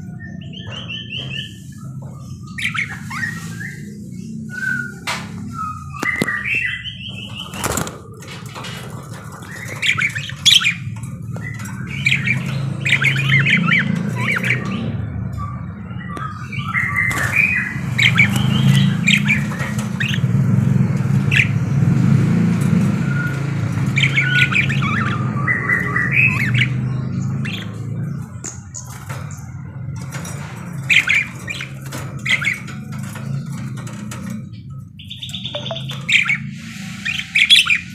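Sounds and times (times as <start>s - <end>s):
parakeets chattering: 0.0s - 37.9s.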